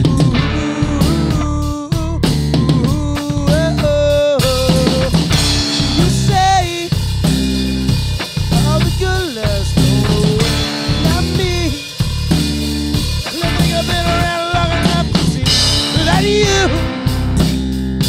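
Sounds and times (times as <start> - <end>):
drum kit: 0.0 - 18.0
rock music: 0.0 - 18.0
sliding lead melody: 0.0 - 18.0.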